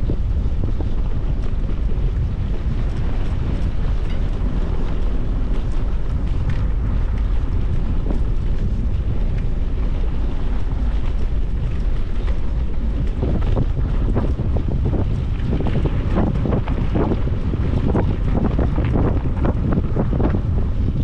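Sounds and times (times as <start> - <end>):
wind buffeting the microphone: 0.0 - 21.0.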